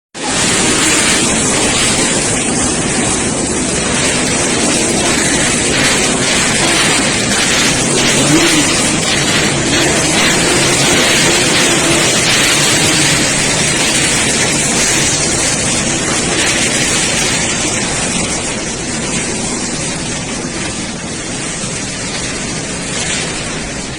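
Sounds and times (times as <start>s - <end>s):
many motorcycle engines running: 0.2s - 23.9s.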